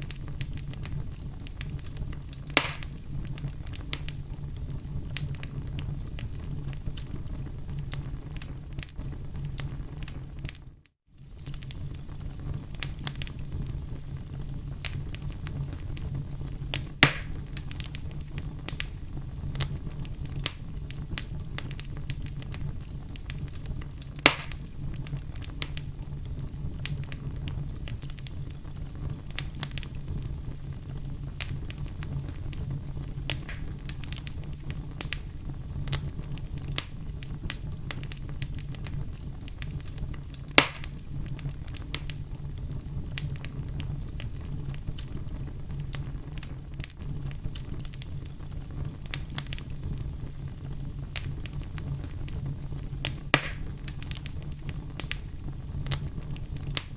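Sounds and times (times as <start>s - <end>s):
loud pops from fire: 0.0s - 56.9s
wood fire burning: 0.0s - 56.9s.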